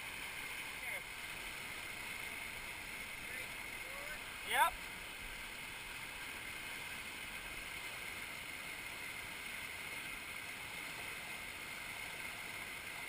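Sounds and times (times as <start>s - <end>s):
river water rushing at rapids: 0.0s - 13.0s.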